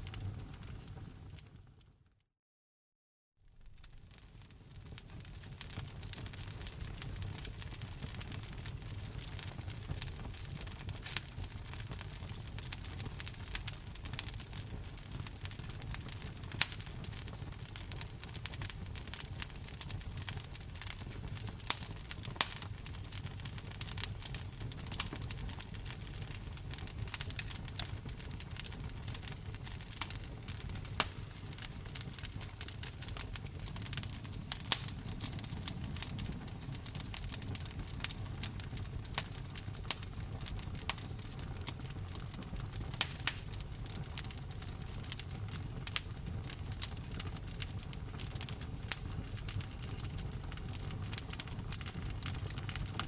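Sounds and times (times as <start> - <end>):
burning logs popping and crackling: 0.0 - 1.8, 3.5 - 53.0
low rumble of flames: 0.0 - 1.9, 3.5 - 53.0.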